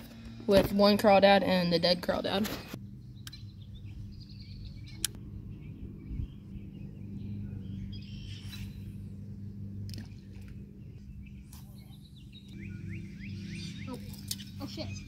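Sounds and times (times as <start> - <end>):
steady low hum: 0.0 - 15.0
birds chirping faintly: 0.8 - 15.0.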